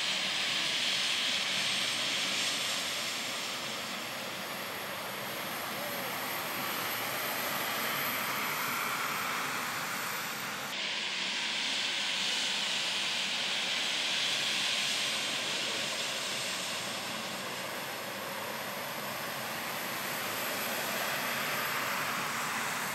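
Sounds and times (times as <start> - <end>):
jet engines running: 0.0 - 22.9.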